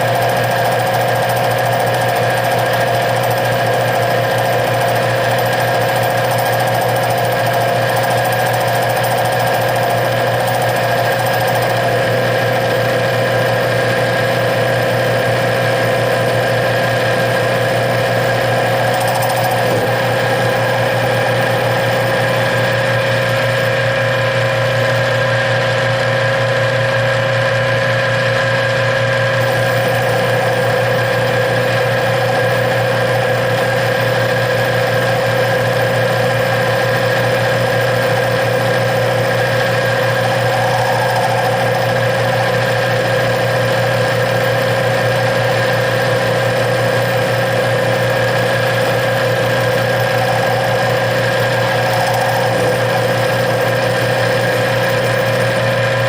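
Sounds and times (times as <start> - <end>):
metal lathe cutting: 0.0 - 56.0.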